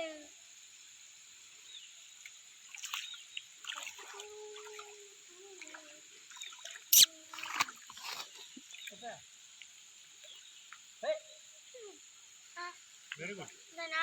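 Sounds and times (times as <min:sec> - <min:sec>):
water trickling and splashing: 0:01.4 - 0:14.0.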